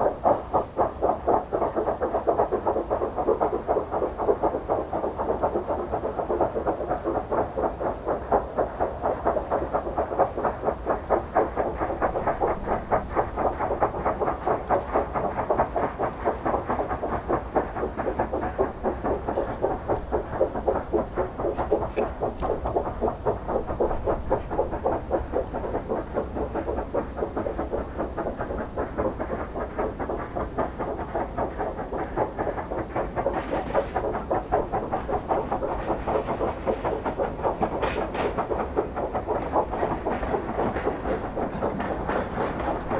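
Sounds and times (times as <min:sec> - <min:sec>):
steam locomotive exhaust beats: 0:00.0 - 0:42.9.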